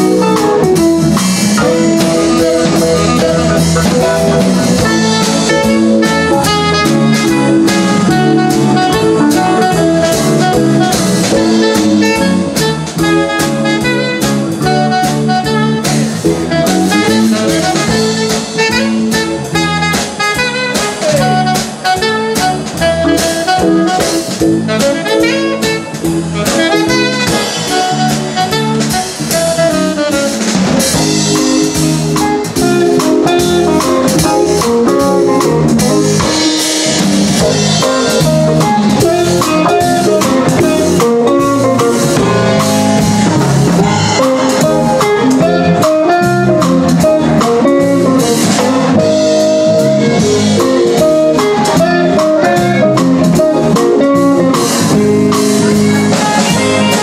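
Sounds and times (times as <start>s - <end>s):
live band playing upbeat music: 0.0s - 57.0s.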